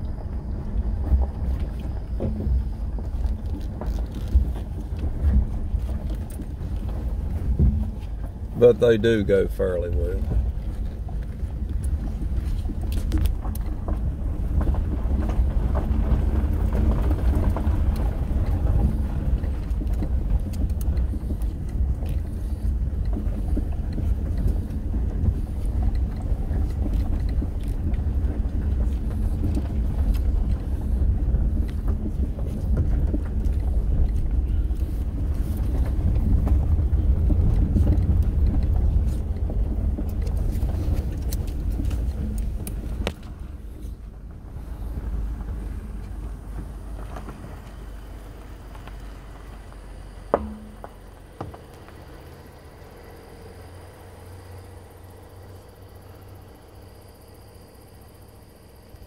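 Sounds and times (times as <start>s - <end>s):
tyre and engine rumble: 0.0s - 59.0s
stones knocking under car: 0.9s - 49.6s, 50.2s - 52.3s.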